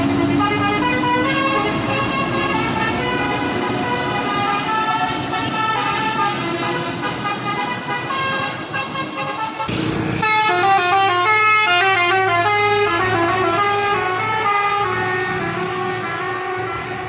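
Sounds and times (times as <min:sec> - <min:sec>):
musical bus horn playing a tune: 0:00.0 - 0:17.0.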